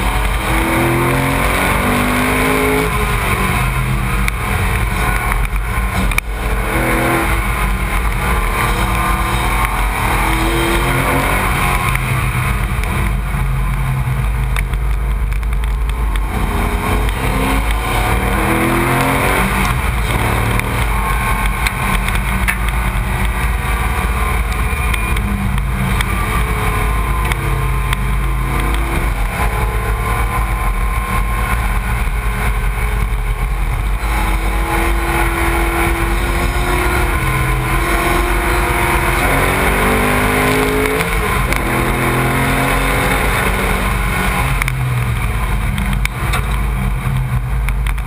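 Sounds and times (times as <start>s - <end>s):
race car engine accelerating: 0.0s - 48.0s
road rumble: 0.0s - 48.0s.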